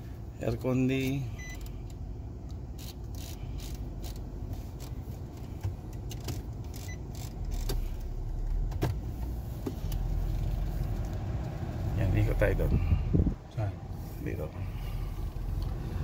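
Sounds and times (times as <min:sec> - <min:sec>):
vehicle cabin rumble: 0:00.0 - 0:16.0.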